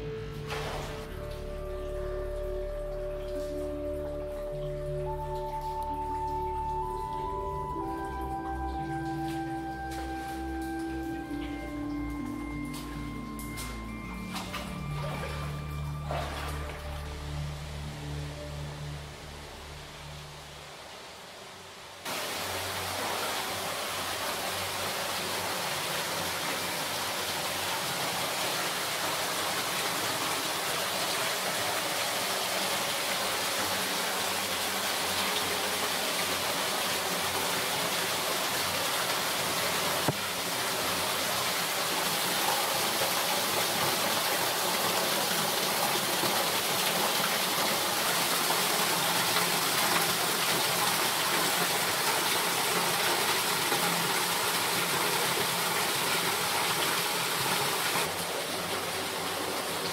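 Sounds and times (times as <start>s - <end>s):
waterfall splashing into pool: 0.0s - 18.5s, 22.0s - 59.9s.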